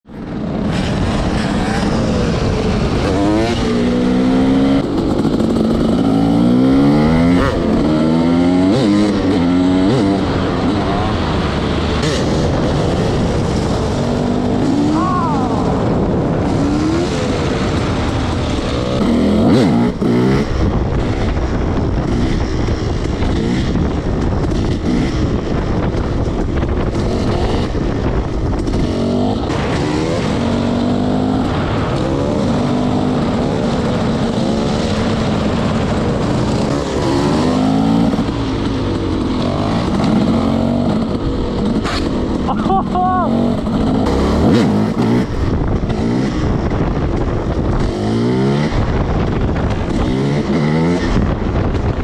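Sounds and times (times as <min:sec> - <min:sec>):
dirt bike engine revving: 0:00.2 - 0:52.0.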